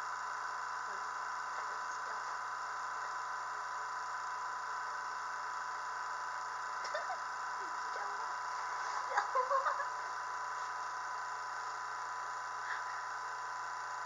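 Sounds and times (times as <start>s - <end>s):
vacuum pump humming: 0.0s - 14.0s.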